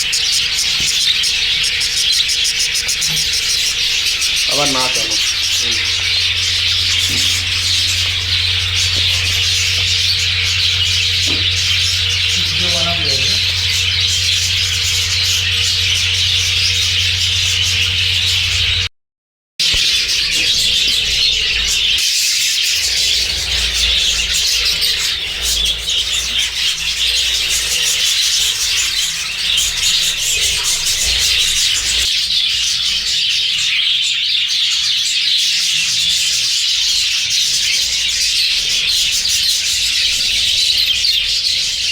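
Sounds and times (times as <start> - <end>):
budgerigars chattering and chirping: 0.0 - 18.9, 19.6 - 41.9.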